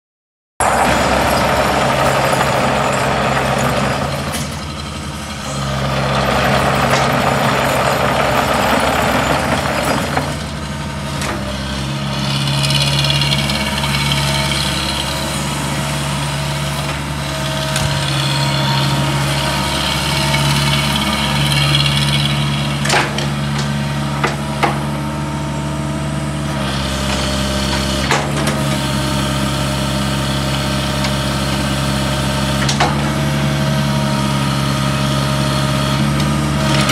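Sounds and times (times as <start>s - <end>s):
excavator diesel engine running: 0.6s - 36.9s.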